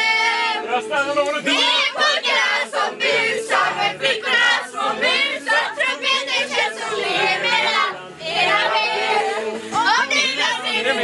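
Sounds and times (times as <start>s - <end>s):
voices singing and shouting: 0.0s - 11.0s.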